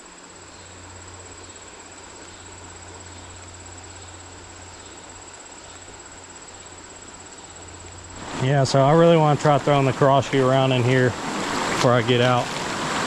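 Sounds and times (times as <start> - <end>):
insects trilling: 0.0 - 13.0
steady hiss: 0.0 - 13.0.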